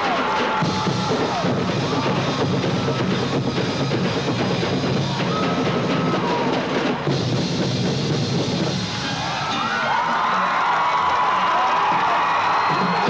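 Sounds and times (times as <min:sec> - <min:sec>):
marching band playing: 0:00.0 - 0:10.7
drums: 0:00.0 - 0:13.0.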